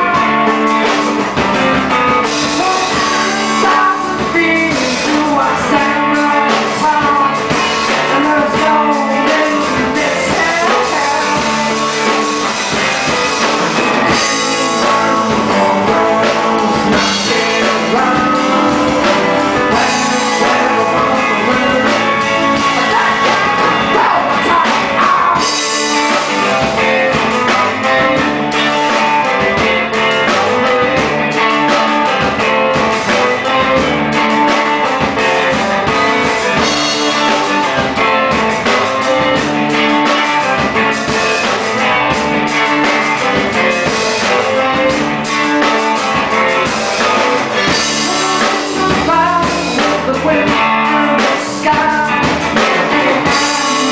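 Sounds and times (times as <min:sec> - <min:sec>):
live blues rock band: 0:00.0 - 0:53.9.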